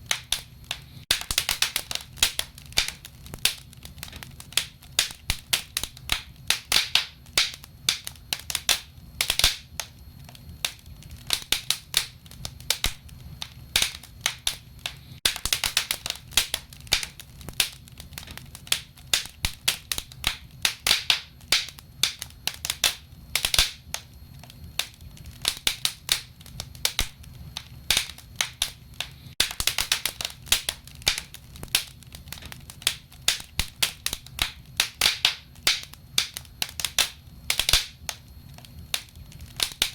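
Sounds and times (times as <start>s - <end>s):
low rumble of stove: 0.0s - 39.9s
wood fire crackling and popping: 0.0s - 39.9s.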